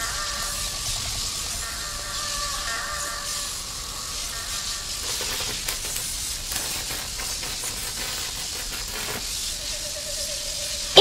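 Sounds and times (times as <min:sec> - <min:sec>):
steady hissing noise: 0:00.0 - 0:11.0.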